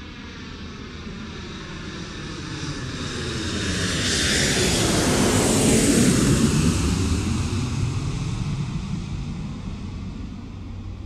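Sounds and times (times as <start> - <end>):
propeller aircraft engine: 0.0 - 11.0.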